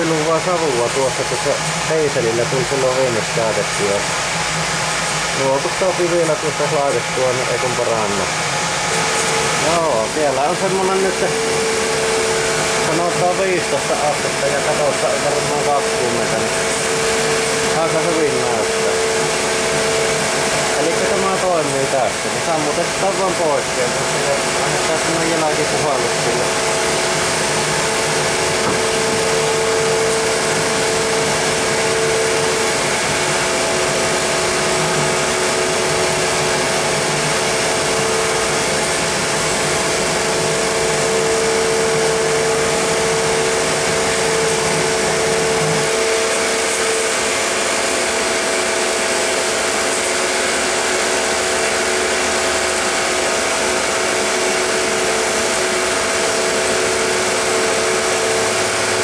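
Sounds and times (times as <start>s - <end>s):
blower fan whirring: 0.0s - 59.0s.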